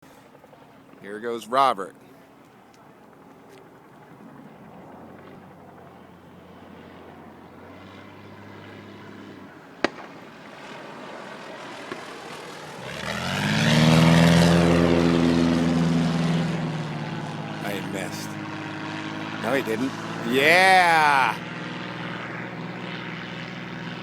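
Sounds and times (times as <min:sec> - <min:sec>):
propeller airplane engine: 0:03.2 - 0:20.3, 0:21.4 - 0:24.0.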